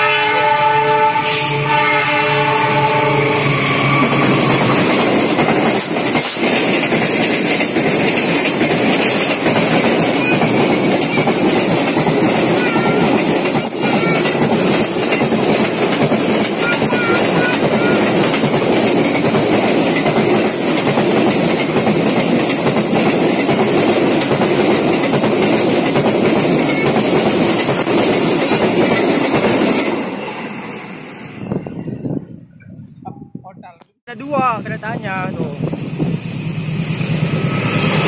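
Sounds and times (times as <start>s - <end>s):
freight train wheels rumbling: 0.0s - 33.3s, 34.2s - 38.0s.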